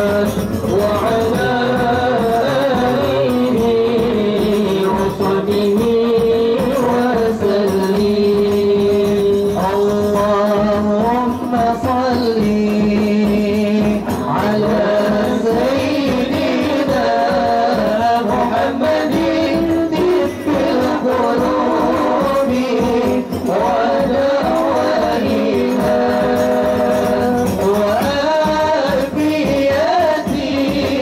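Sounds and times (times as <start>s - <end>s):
frame drums beating: 0.0s - 31.0s
man singing into microphone: 0.0s - 31.0s.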